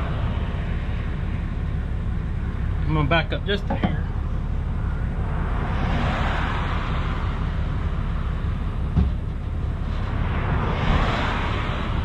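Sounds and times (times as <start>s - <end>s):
vehicle passing on highway: 0.0s - 2.3s, 4.0s - 12.0s
low rumble: 0.0s - 12.0s.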